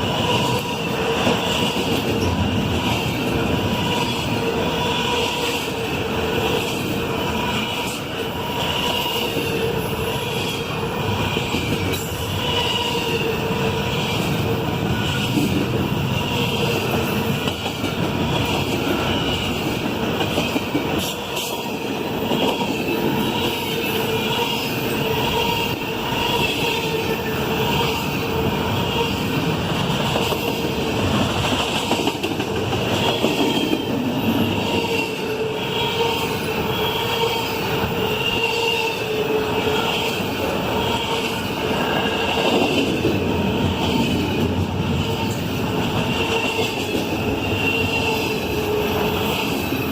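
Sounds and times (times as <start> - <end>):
wheels rumbling on rail: 0.0 - 49.9.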